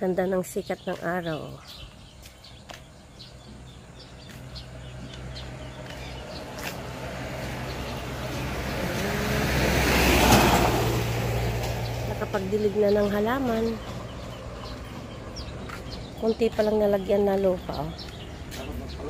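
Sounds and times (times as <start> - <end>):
birds chirping: 0.0 - 19.0
truck passing by: 2.9 - 19.0.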